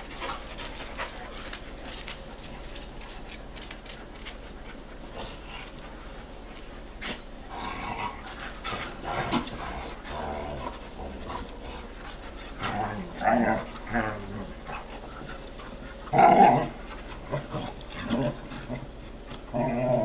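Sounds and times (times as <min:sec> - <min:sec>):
dogs scuffling and snapping: 0:00.0 - 0:20.0.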